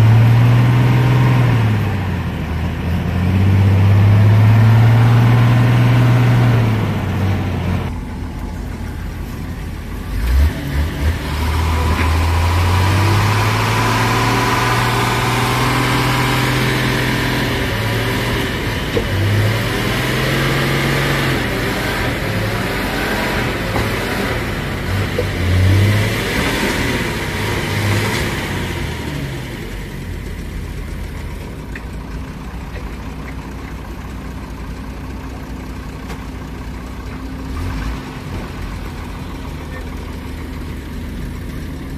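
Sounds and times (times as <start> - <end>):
diesel engines revving: 0.0 - 41.9.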